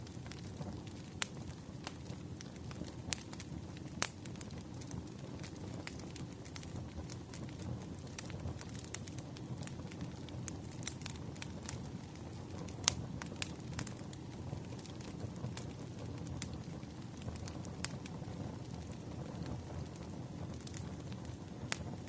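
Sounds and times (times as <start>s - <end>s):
campfire burning: 0.0s - 22.0s
fire crackles and pops: 0.0s - 22.0s.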